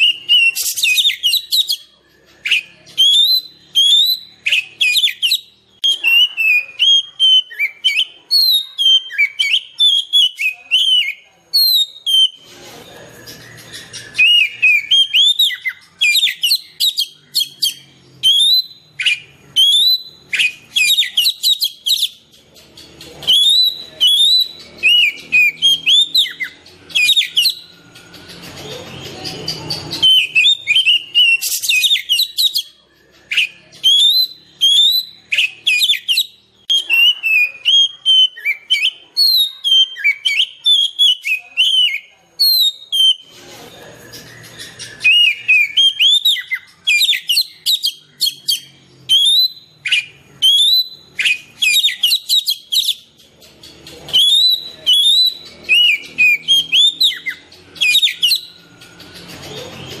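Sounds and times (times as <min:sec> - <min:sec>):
magpie-robin singing whistled phrases: 0:00.0 - 1:00.0.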